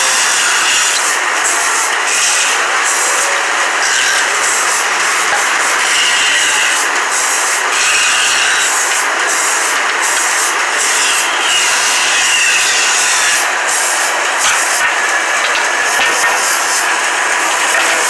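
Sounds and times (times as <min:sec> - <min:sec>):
band saw running: 0:00.0 - 0:18.0
saw blade cutting wood whine: 0:00.0 - 0:18.0.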